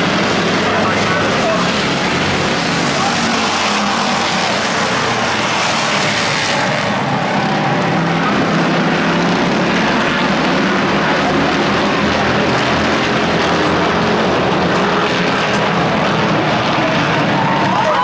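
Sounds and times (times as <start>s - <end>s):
race car engines roaring: 0.0s - 18.0s.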